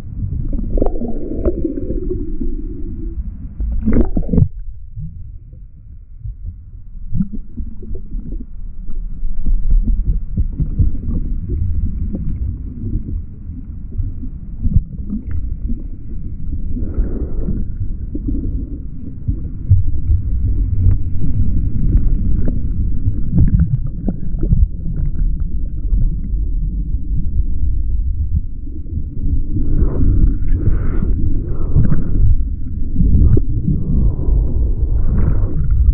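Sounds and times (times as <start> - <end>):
muffled water sloshing: 0.0 - 35.9.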